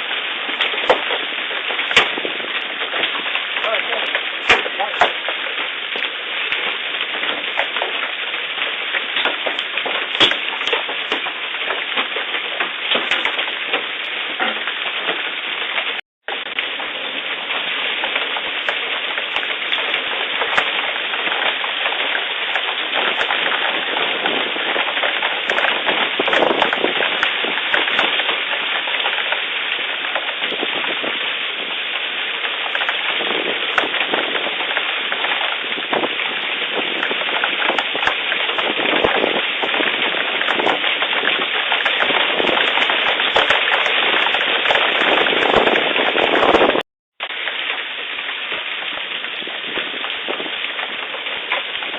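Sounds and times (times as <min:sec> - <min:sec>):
hailstones cracking on hard surfaces: 0:00.0 - 0:51.9
rain patter: 0:00.0 - 0:51.9.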